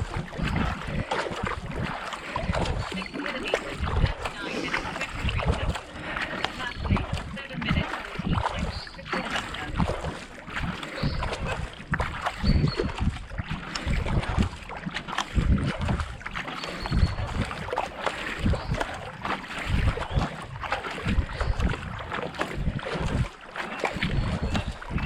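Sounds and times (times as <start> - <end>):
kayak paddle splashing: 0.0 - 25.0
water rushing along hull: 0.0 - 25.0
wind buffeting microphone: 0.0 - 25.0.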